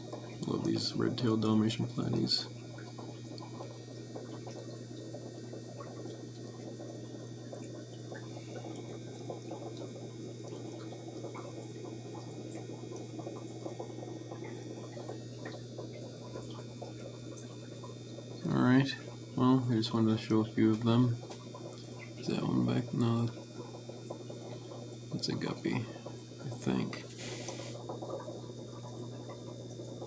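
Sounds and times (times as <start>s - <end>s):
aquarium filter bubbling: 0.0s - 30.0s
steady low hum: 0.0s - 30.0s.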